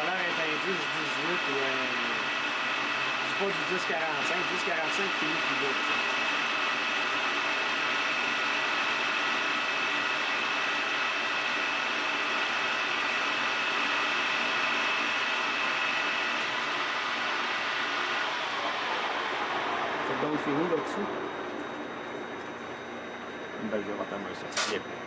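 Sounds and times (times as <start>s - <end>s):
metal lathe running: 0.0s - 24.8s
high whine from cutting: 0.0s - 25.0s.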